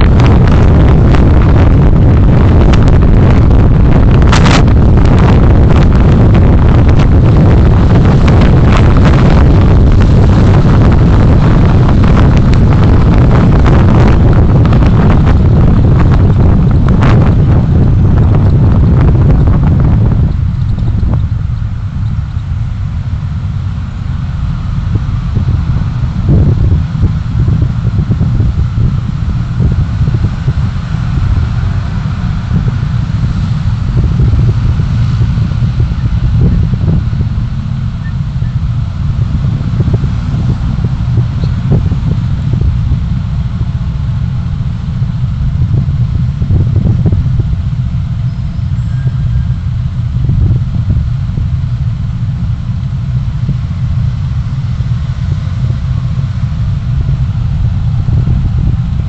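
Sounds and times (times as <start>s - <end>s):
vehicle road noise: 0.0s - 59.0s
wind buffeting microphone: 0.0s - 59.0s.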